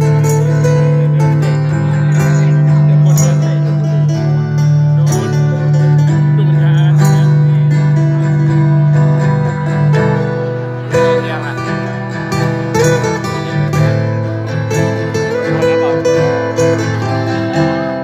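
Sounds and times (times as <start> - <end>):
guitar: 0.0 - 18.0
live band playing pop music: 0.0 - 18.0.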